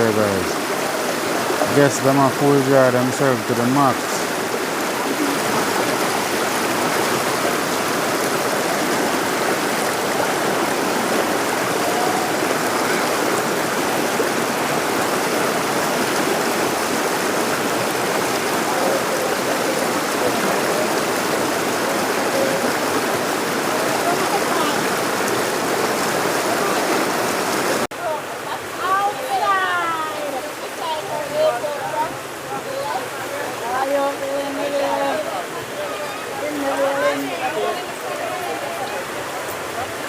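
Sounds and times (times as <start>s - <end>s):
river and waterfall rushing: 0.0s - 40.0s.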